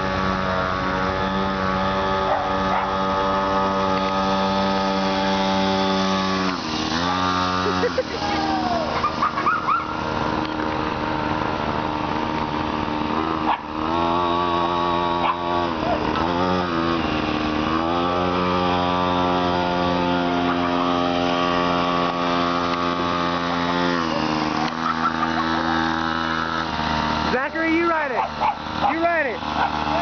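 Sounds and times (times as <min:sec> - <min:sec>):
small petrol engine running: 0:00.0 - 0:30.0.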